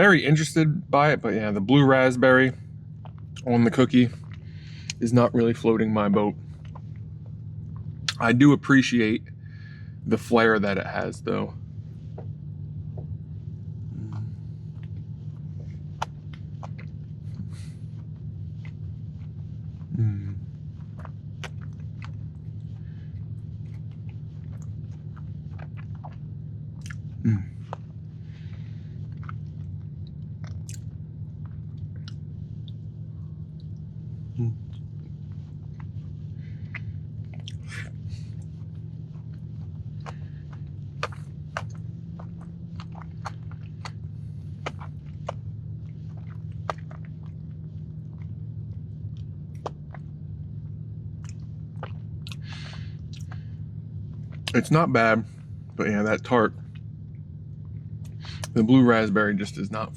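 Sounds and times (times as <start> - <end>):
low hum: 0.0 - 59.9
person chewing cookie: 2.7 - 8.4, 9.2 - 58.6.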